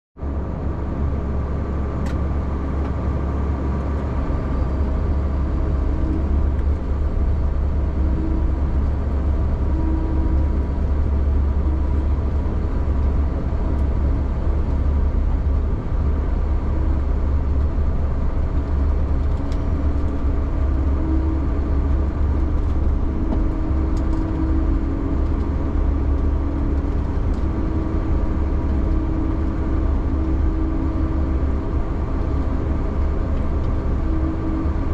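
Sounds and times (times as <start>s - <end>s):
snowcat engine droning: 0.2s - 34.9s.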